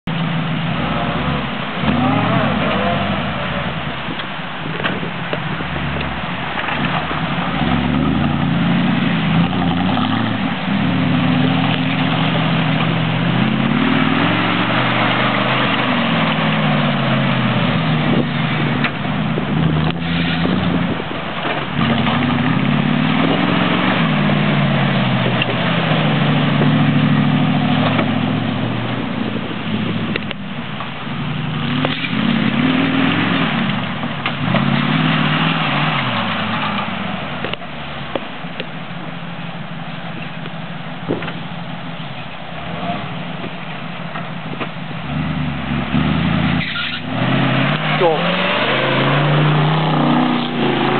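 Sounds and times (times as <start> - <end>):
truck engine revving: 0.0 - 38.6, 41.0 - 50.9.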